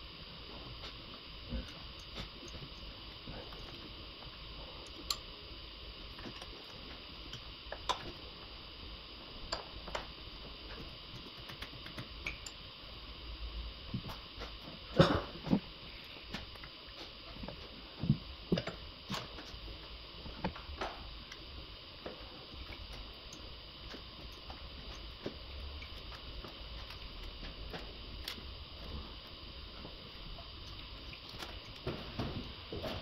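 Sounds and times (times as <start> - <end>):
faint high hum: 0.0 - 33.0.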